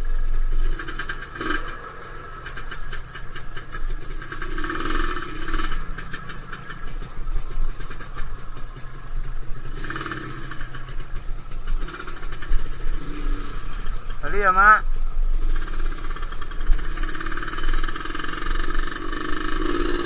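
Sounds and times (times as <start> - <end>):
short buzzy engine bursts: 0.0 - 20.0
two-stroke motorcycle engine: 0.0 - 20.0.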